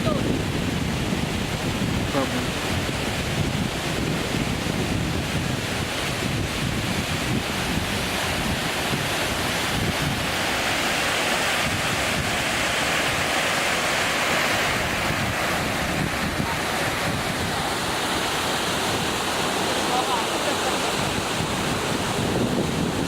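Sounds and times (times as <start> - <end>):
wind buffeting microphone: 0.0 - 19.7, 20.8 - 23.0
waterfall rushing: 0.0 - 23.0.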